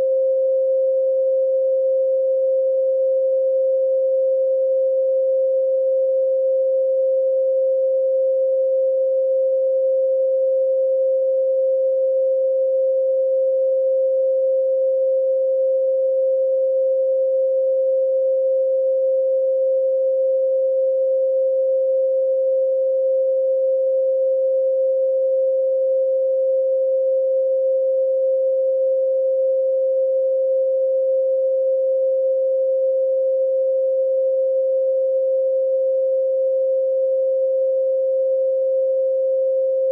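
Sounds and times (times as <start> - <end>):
pure sine tone: 0.0 - 39.9.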